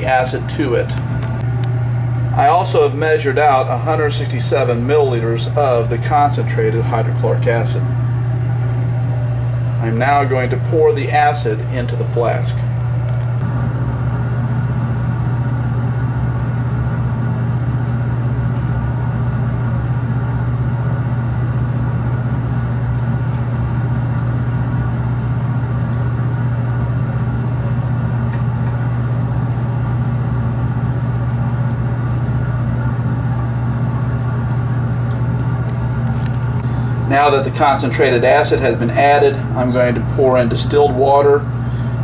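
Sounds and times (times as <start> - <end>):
exhaust fan humming: 0.0 - 42.0.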